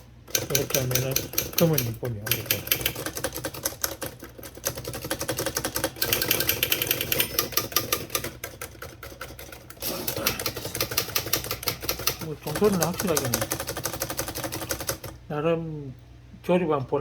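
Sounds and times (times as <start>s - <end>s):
typewriter typing: 0.3s - 15.2s.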